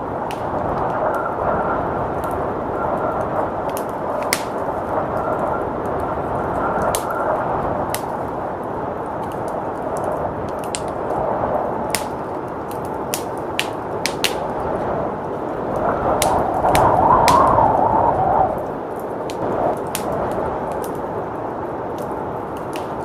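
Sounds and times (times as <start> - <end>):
blizzard wind rushing: 0.0 - 23.0
wood fire crackling and popping: 0.0 - 23.0.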